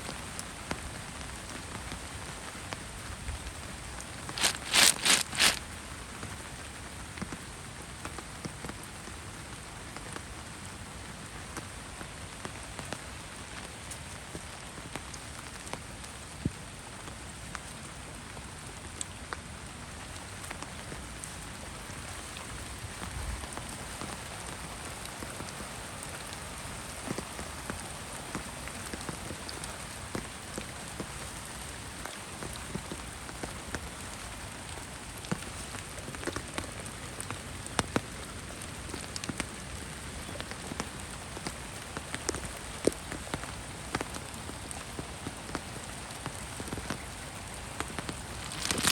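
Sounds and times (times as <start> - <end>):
heavy rain falling: 0.0 - 48.9
raindrops striking close by: 0.0 - 48.9.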